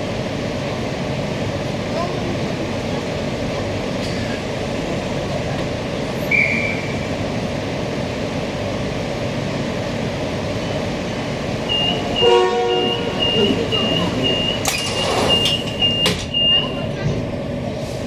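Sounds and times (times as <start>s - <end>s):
train equipment hum: 0.0s - 18.0s.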